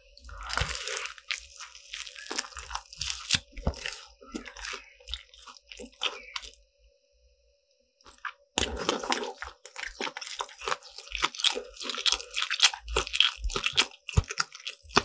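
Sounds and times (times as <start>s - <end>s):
crunchy pastry being chewed: 0.0s - 6.6s, 8.0s - 15.0s.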